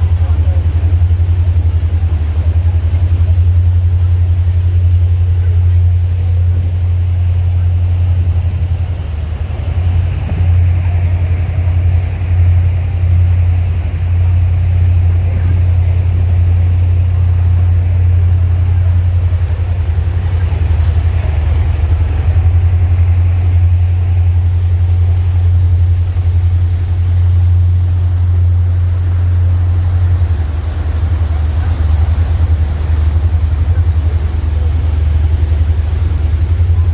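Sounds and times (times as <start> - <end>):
loud low engine drone: 0.0 - 36.9.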